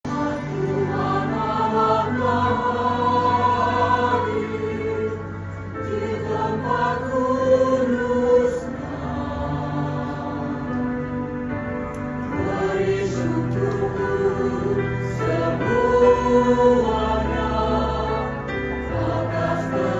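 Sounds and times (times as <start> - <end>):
choir singing a hymn: 0.0 - 19.9
low sustained accompaniment: 0.1 - 19.9.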